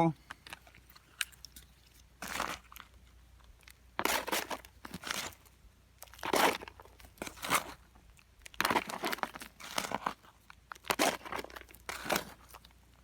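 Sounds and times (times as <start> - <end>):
digging in gravel: 0.2 - 13.0.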